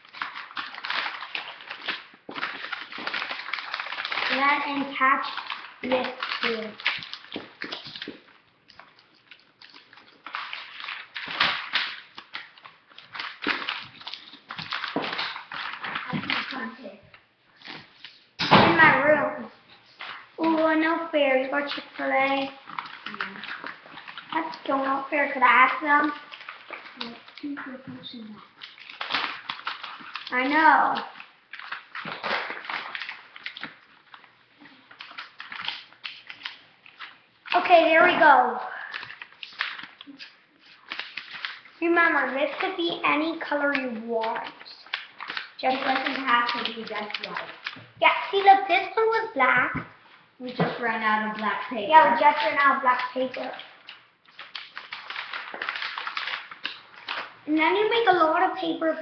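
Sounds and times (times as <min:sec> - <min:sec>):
paper rustling and crinkling: 0:00.0 - 0:59.0.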